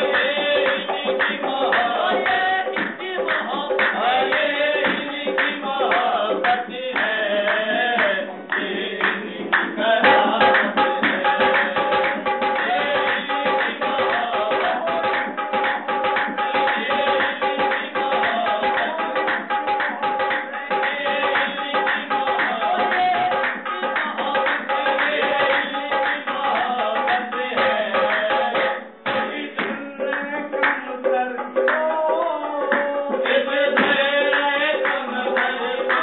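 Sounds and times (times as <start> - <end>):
man singing: 0.0 - 36.0
rhythmic hand-clapping: 0.0 - 36.0
tabla drumming: 0.0 - 36.0.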